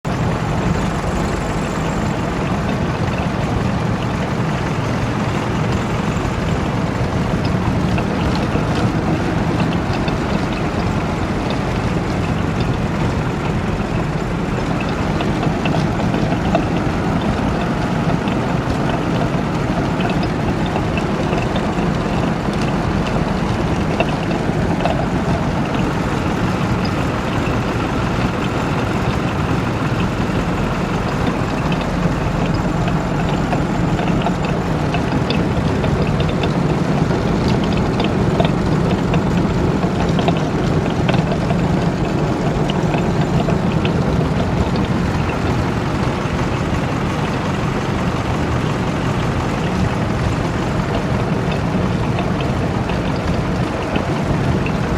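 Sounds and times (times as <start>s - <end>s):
combine harvester running: 0.0s - 54.9s
machine knocking: 0.1s - 54.9s.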